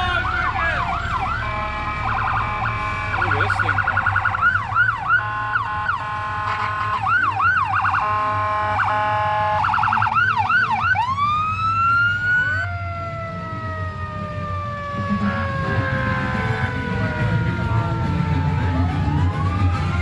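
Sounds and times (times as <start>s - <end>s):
electronic siren yelping and wailing: 0.0s - 20.0s
low engine rumble: 0.0s - 20.0s.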